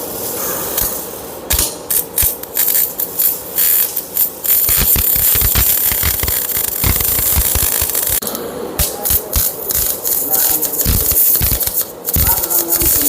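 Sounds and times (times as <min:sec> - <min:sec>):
welding arc crackling and hissing: 0:00.0 - 0:13.0.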